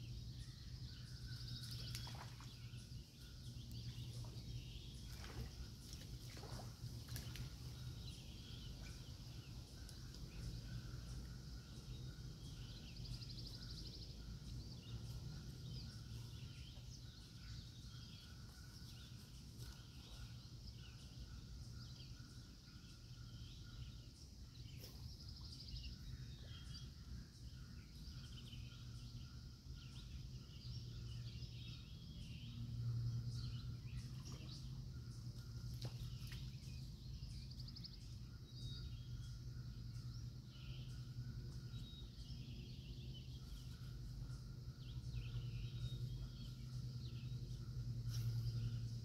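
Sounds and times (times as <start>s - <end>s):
birds chirping and trilling: 0.0s - 49.0s.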